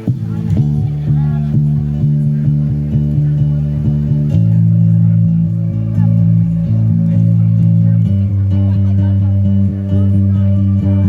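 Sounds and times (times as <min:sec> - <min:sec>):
rock band guitars and bass: 0:00.0 - 0:11.0.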